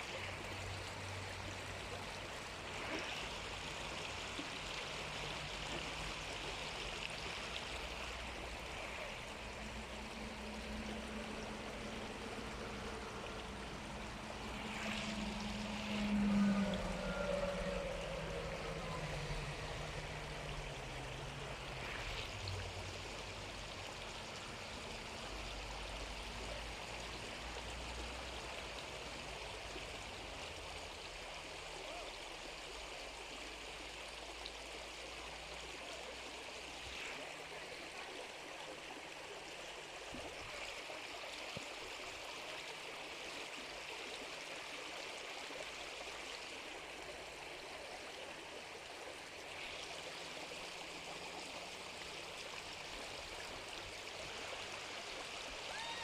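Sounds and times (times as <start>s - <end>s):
river water rushing and babbling: 0.0s - 56.0s.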